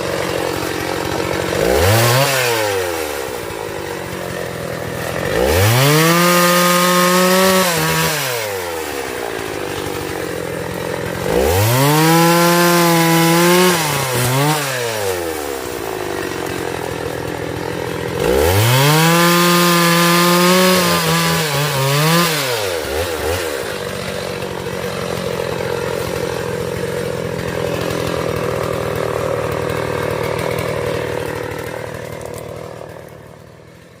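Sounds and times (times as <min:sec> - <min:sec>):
chainsaw revving: 0:00.0 - 0:34.0.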